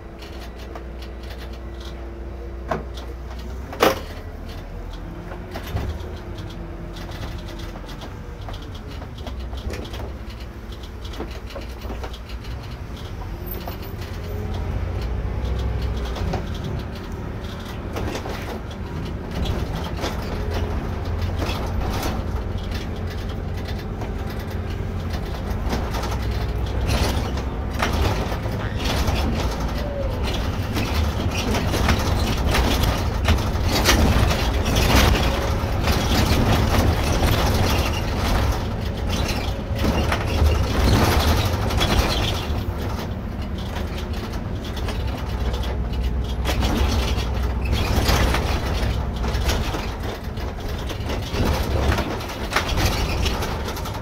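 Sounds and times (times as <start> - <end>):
coach engine and road rumble: 0.0 - 54.0
rattles and clicks from bus body: 0.0 - 54.0.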